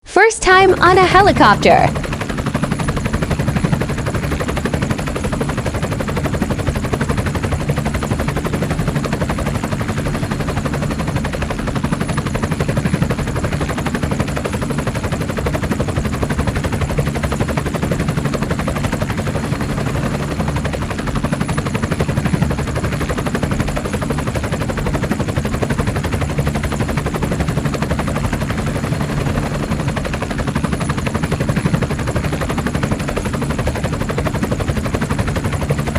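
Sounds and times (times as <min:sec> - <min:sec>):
helicopter engine drone: 0:00.1 - 0:35.9
helicopter rotor chop: 0:00.2 - 0:35.9.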